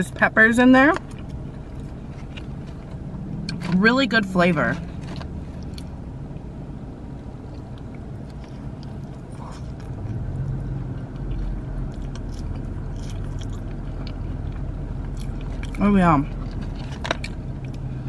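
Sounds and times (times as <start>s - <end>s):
low hum inside a car: 0.0s - 18.0s
person chewing: 1.0s - 3.7s, 4.9s - 6.5s, 7.4s - 17.9s.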